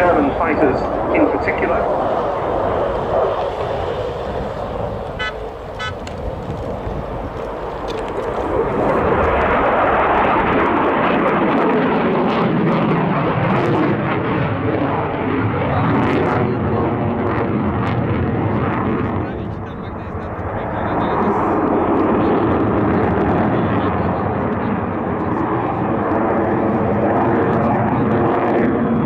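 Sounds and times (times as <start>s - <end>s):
jet aircraft passing: 0.0s - 29.0s.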